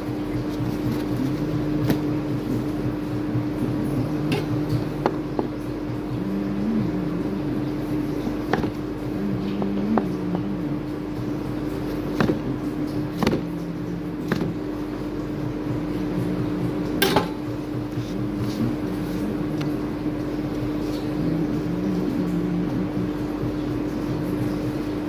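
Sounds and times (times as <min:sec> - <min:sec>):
kitchen machine hum: 0:00.0 - 0:25.0.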